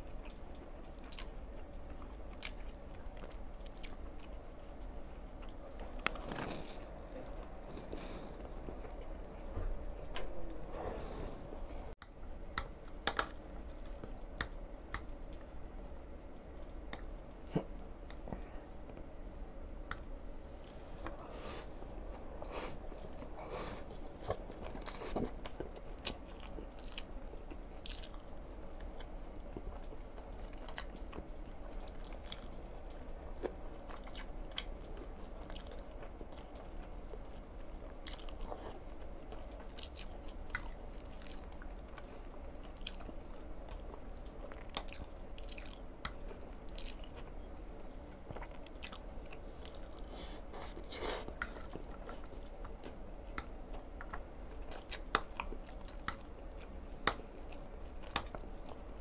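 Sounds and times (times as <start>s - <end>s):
chewing noodles: 0.0s - 11.9s, 19.9s - 59.0s
low steady hum: 0.0s - 59.0s.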